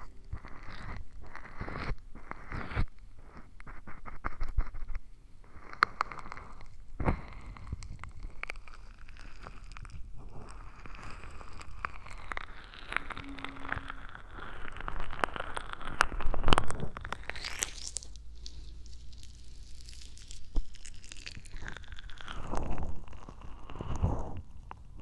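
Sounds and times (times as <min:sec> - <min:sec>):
scraping and rubbing on microphone: 0:00.0 - 0:25.0.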